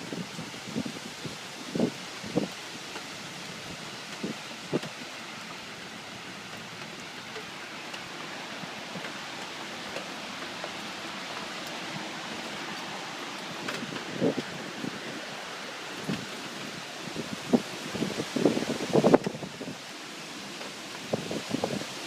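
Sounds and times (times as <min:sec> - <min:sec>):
rain: 0:00.0 - 0:22.0
storm wind: 0:00.0 - 0:22.0.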